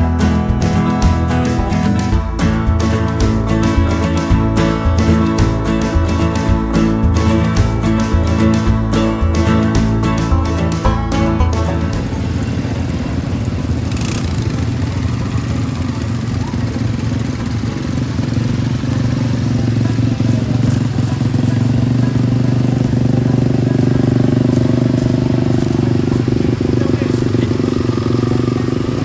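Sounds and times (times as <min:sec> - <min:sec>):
off-road vehicle engines: 0:00.0 - 0:29.0
quad bike riding by: 0:00.0 - 0:29.0.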